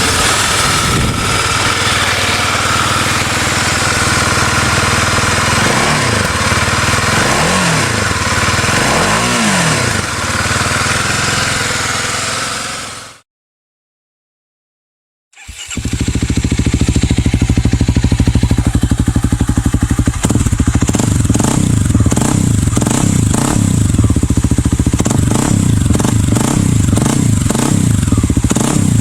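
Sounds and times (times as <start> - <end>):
engine revving: 0.0 - 13.2, 15.4 - 29.0.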